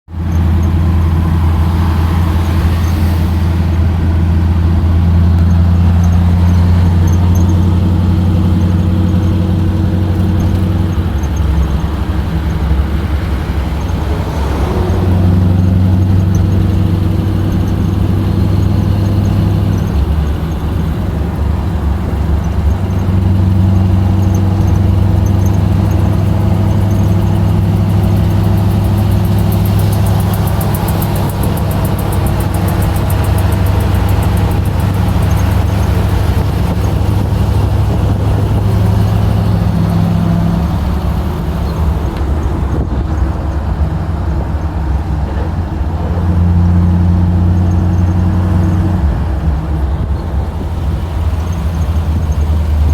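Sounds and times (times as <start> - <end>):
engine droning under load: 0.1 - 52.9.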